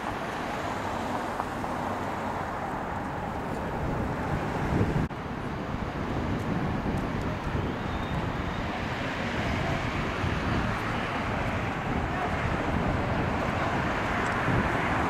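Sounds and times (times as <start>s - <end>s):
road traffic noise: 0.0s - 15.0s
wind buffeting microphone: 2.6s - 15.0s.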